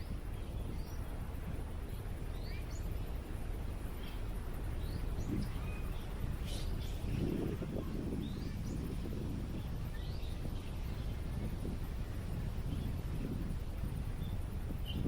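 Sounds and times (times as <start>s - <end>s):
low rumble of wind: 0.0s - 15.0s
small birds chirping: 0.0s - 15.0s.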